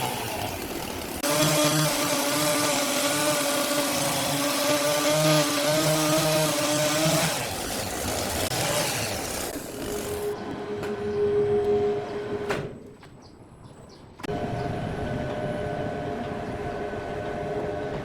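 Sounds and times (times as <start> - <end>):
sawmill machinery whine: 0.0 - 12.4, 14.3 - 18.0.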